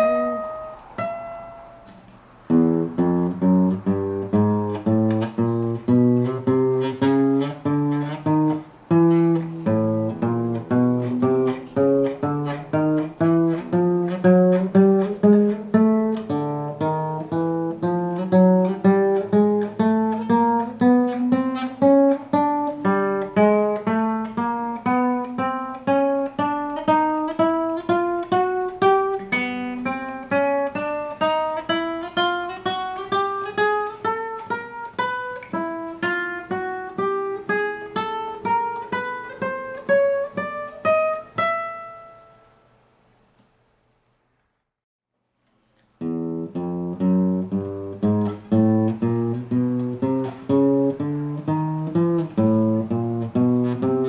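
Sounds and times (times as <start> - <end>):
acoustic guitar plucked notes: 0.0 - 42.7, 46.0 - 54.0.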